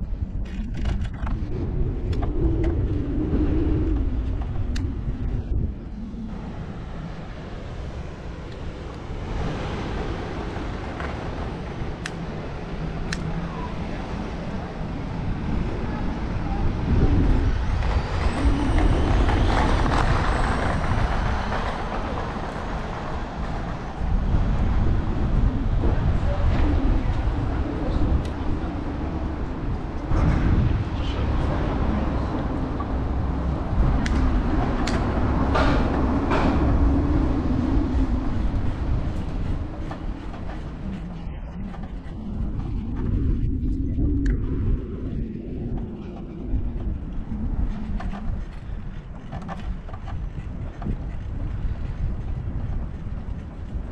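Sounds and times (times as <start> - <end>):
road noise: 0.0 - 53.9
wind rumble on microphone: 0.0 - 53.9.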